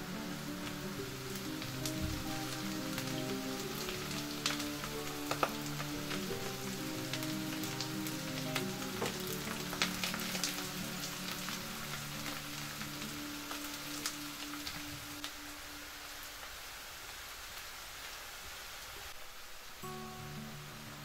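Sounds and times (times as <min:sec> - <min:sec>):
soft background music: 0:00.0 - 0:16.5, 0:19.8 - 0:21.0
onions sizzling in oil: 0:00.0 - 0:21.0.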